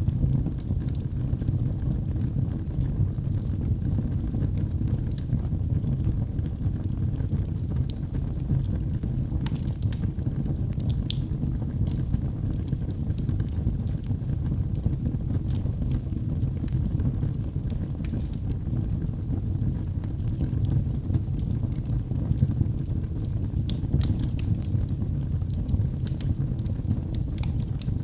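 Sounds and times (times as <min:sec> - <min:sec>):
low rumble of flames: 0:00.0 - 0:28.0
logs crackling and popping: 0:00.1 - 0:28.0.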